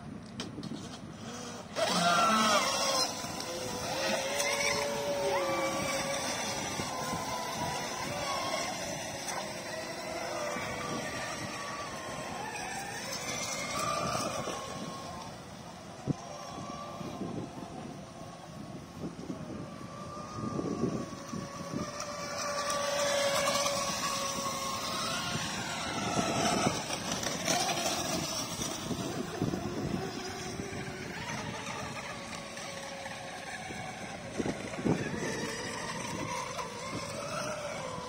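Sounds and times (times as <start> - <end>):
racing boat motor whine: 0.0 - 38.0
wind rumbling on microphone: 0.0 - 38.0.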